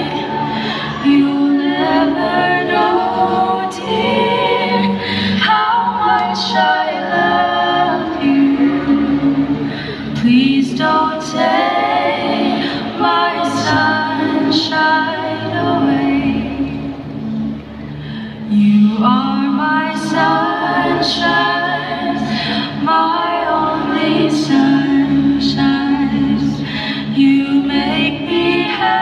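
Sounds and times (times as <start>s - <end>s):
women singing in close harmony: 0.0s - 17.0s, 18.4s - 29.0s.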